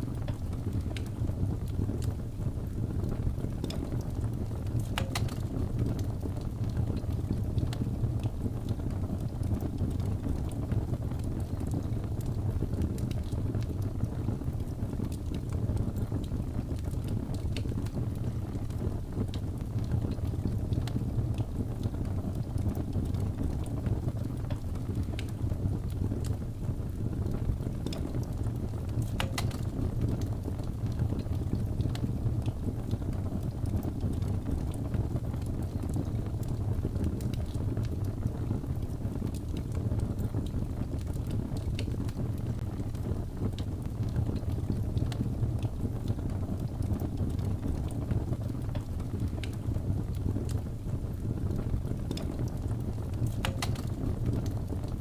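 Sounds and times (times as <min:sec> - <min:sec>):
burning wood crackling and popping: 0:00.0 - 0:55.0
fire roaring: 0:00.0 - 0:55.0.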